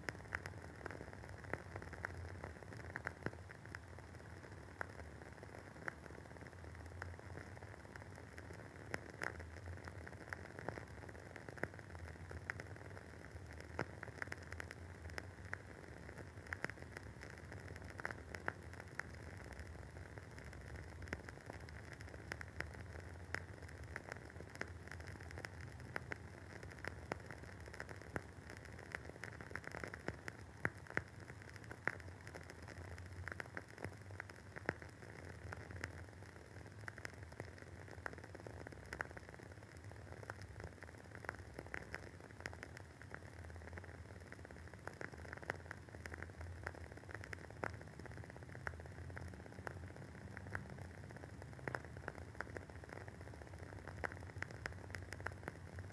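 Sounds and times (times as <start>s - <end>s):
candle wick crackling and popping: 0.0s - 55.9s
faint steady hiss: 0.0s - 55.9s.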